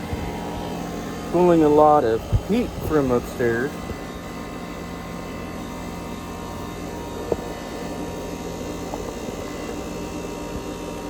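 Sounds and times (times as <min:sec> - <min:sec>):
air conditioner unit whirring: 0:00.0 - 0:11.0.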